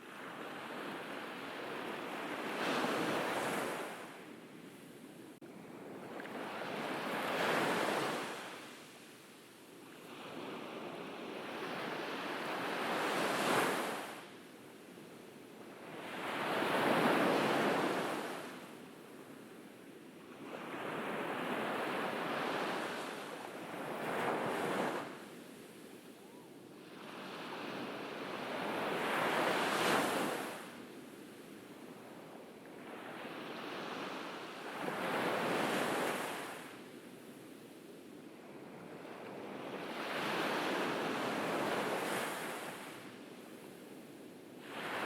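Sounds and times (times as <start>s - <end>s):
ocean waves breaking on a beach: 0.0s - 45.0s.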